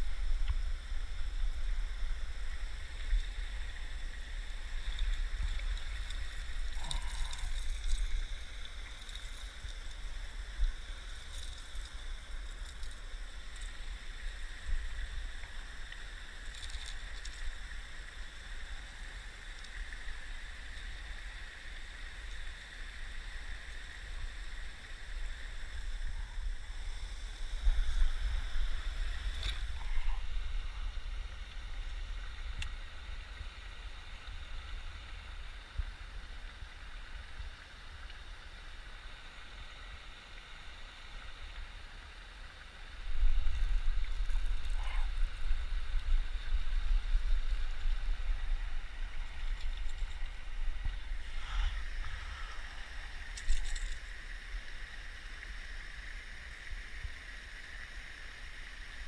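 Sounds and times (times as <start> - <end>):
running water from spillway: 0.0 - 59.0.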